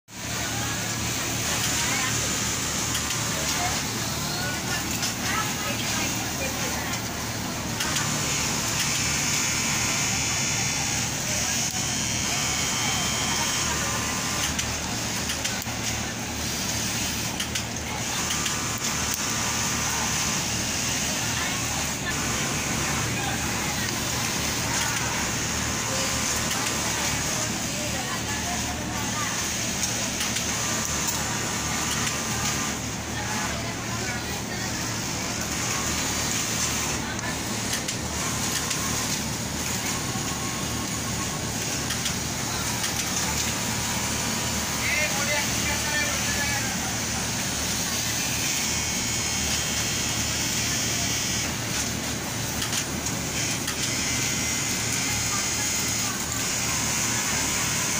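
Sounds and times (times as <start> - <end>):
electric motor humming and whirring: 0.4 - 57.9.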